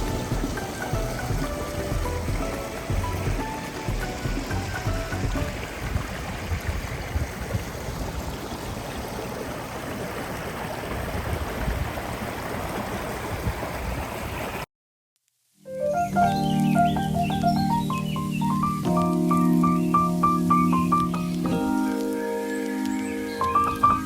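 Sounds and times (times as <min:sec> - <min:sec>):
creek water flowing: 0:00.0 - 0:14.7, 0:15.8 - 0:24.0.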